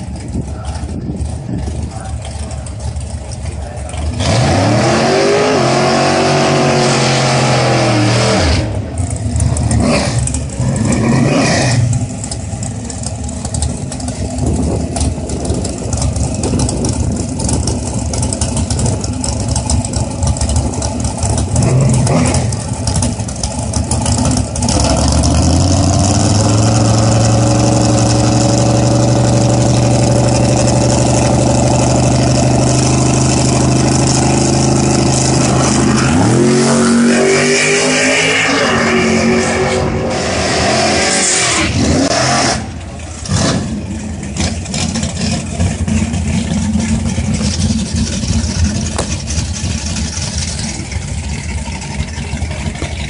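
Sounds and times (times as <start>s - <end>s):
big engine rumbling: 0.0s - 53.0s
race car revving: 0.0s - 53.0s.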